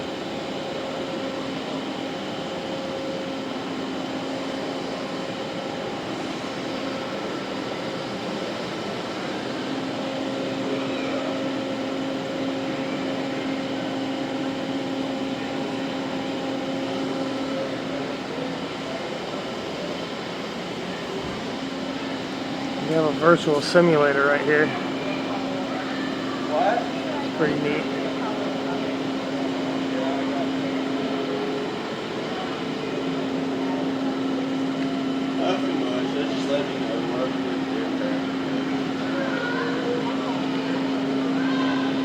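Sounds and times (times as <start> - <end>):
machinery humming: 0.0 - 42.0.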